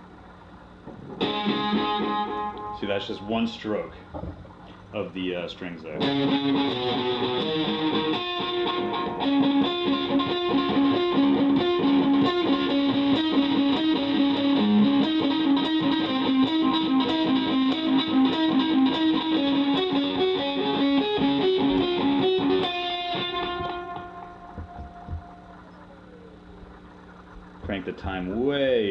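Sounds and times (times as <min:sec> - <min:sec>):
distorted electric guitar with delay: 0:00.0 - 0:03.9, 0:05.0 - 0:28.9.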